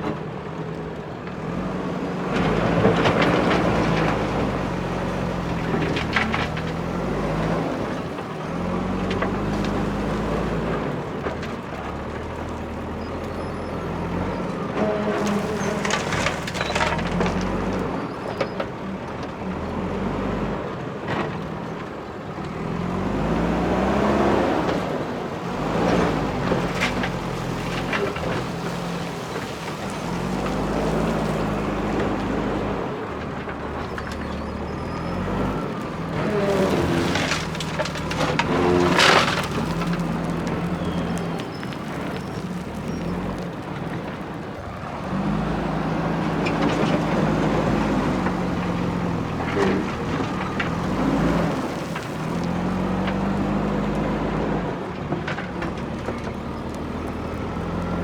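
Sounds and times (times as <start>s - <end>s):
backhoe diesel engine revving: 1.4s - 18.5s, 22.2s - 58.0s.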